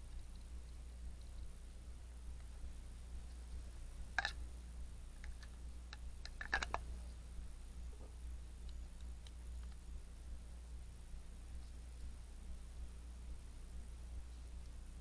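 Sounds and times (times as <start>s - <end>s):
faint ticks: 0.0s - 7.2s, 7.8s - 10.4s, 11.0s - 15.0s
steady low hum: 0.0s - 15.0s.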